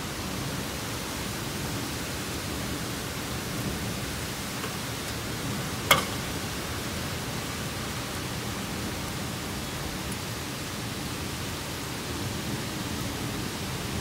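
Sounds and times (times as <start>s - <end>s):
heavy rain downpour: 0.0s - 14.0s.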